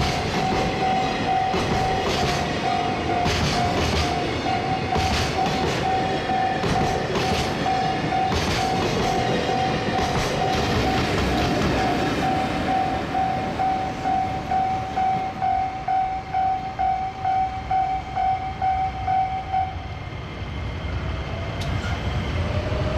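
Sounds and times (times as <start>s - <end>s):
level crossing alarm ringing: 0.0s - 20.0s
freight train rumbling past: 0.0s - 22.9s.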